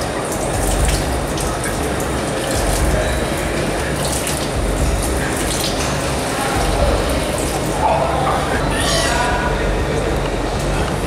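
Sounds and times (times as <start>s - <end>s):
tap water running into basin: 0.0s - 11.0s.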